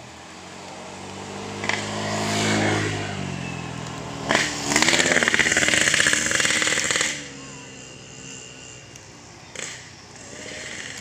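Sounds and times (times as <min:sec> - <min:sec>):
engine revving close by: 0:00.0 - 0:11.0
vehicle engine passing: 0:00.0 - 0:11.0.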